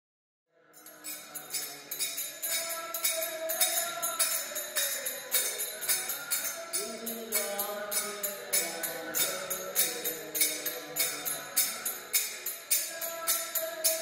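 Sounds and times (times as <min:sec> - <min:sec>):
jingling percussion beat: 0:00.8 - 0:14.0.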